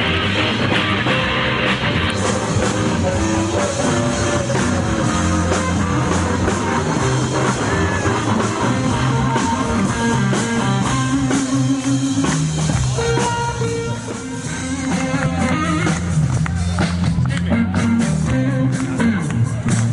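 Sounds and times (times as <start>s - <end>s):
drum kit beat: 0.0s - 19.9s
electric guitars: 0.0s - 19.9s.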